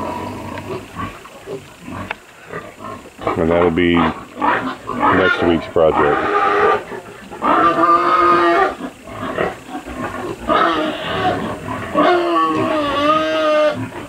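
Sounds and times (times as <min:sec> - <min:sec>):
young pigs squealing: 0:00.0 - 0:14.0.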